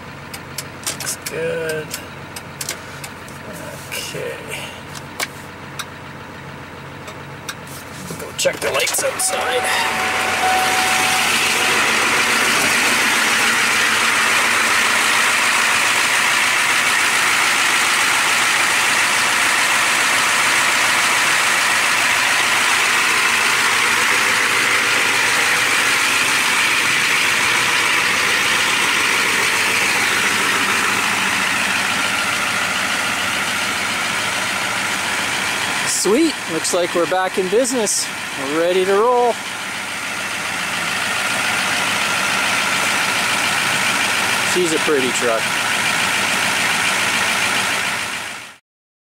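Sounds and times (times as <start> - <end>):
diesel engine idling: 0.0 - 48.6.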